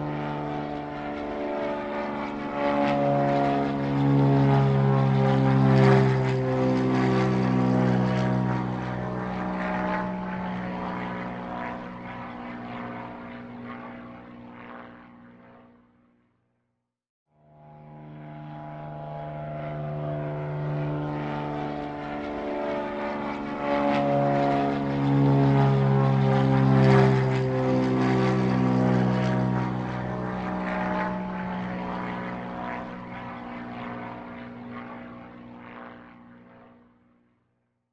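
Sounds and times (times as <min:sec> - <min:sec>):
propeller airplane flying by: 0:00.0 - 0:16.3, 0:17.4 - 0:37.4.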